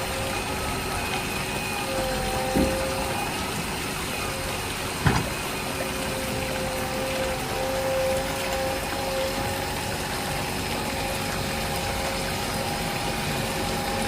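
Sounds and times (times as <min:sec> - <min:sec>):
small water pump running: 0:00.0 - 0:14.0.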